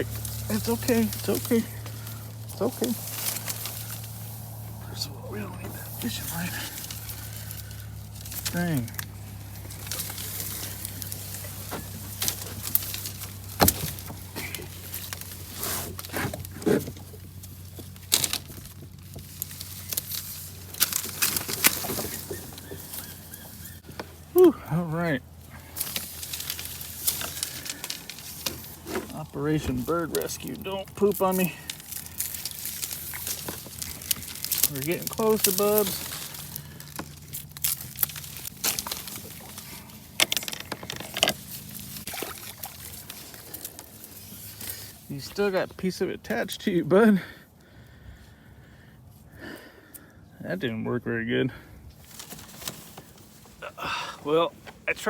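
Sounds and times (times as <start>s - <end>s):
reeds and fishing line rustling: 0.0s - 46.7s, 51.9s - 55.0s.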